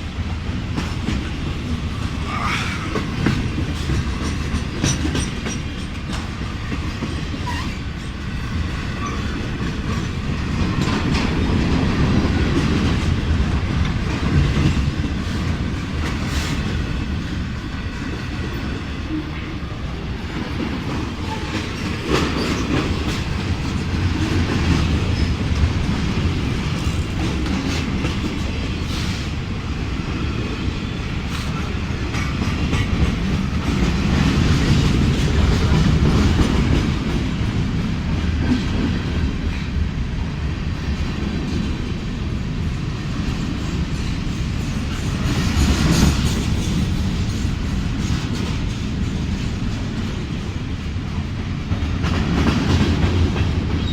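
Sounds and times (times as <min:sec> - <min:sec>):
train wheels clacking over rail joints: 0:00.0 - 0:19.3, 0:20.2 - 0:39.8, 0:43.1 - 0:53.9.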